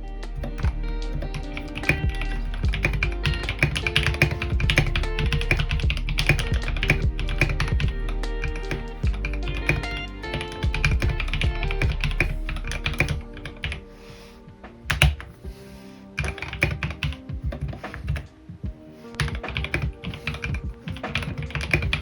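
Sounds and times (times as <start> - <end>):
background music: 0.0 - 22.0
mechanical keyboard typing: 0.4 - 13.8, 14.9 - 15.2, 16.2 - 18.2, 19.2 - 22.0.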